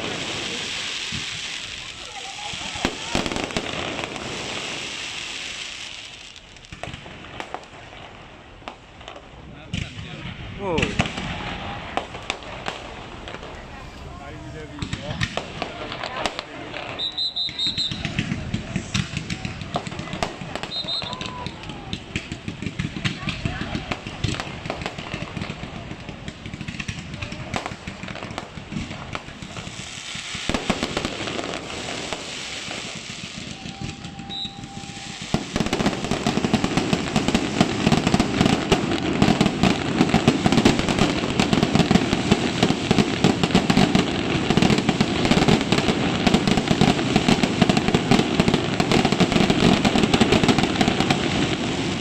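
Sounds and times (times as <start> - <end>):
fireworks crackling pops: 0.0 - 52.0.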